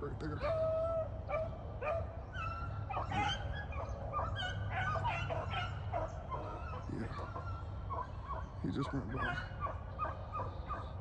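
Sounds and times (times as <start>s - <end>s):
dogs yipping and baying: 0.4s - 11.0s.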